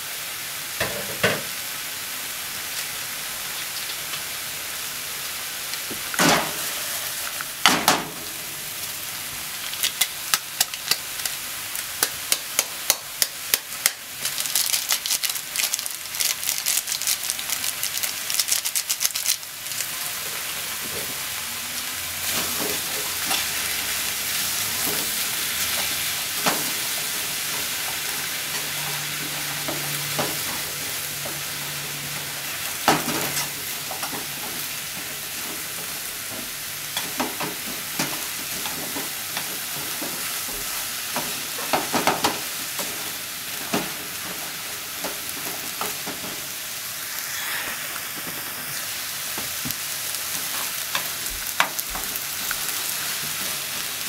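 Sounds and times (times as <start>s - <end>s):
vegetables sizzling in a frying pan: 0.0s - 54.0s.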